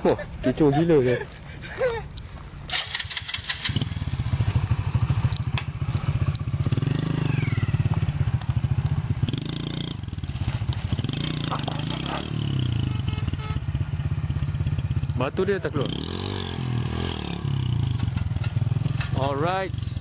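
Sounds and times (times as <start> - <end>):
motorcycle engine revving: 2.7 - 20.0.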